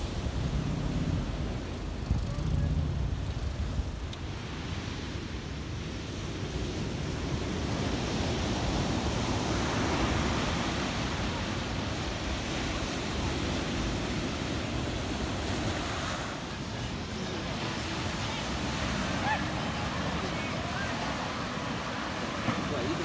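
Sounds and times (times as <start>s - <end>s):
ocean surf washing up beach: 0.0s - 23.0s.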